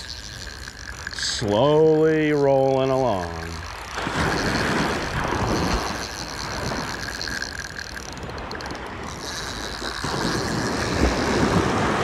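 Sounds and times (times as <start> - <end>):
fishing reel cranking: 0.0 - 12.0
wind on microphone: 0.0 - 12.0.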